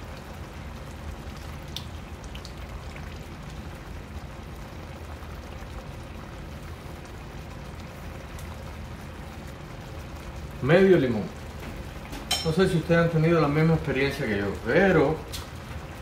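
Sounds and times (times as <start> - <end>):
sauce bubbling in skillet: 0.0 - 16.0.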